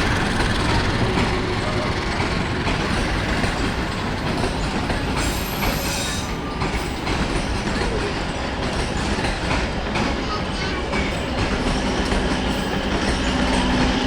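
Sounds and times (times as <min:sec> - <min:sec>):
high wheel squeal: 0:00.0 - 0:09.1, 0:10.1 - 0:14.0
train wheels rumbling clickety-clack: 0:00.0 - 0:14.0.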